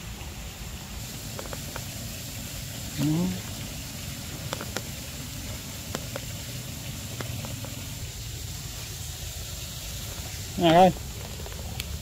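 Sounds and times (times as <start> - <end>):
low rumble and hiss: 0.0 - 12.0
thin steady high tone: 0.8 - 12.0.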